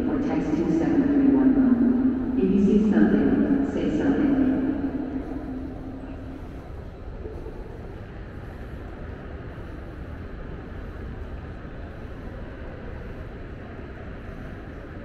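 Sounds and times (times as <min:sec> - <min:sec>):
train station concourse hum: 0:00.0 - 0:15.0.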